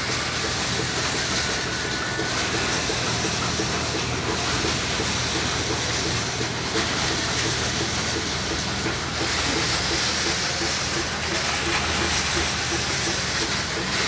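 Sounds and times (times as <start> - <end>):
fast rhythmic machine clatter: 0.0 - 14.0.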